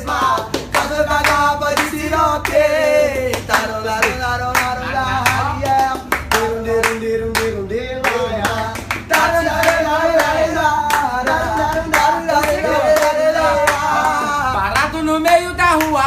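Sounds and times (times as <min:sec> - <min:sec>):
hands clapping a steady beat: 0:00.0 - 0:16.0.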